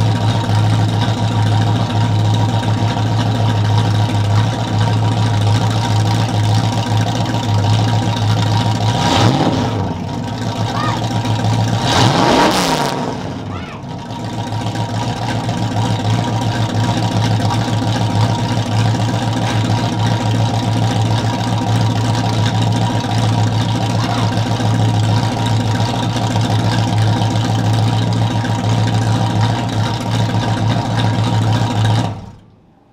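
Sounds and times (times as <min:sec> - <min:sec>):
pickup engine idling: 0:00.0 - 0:32.9.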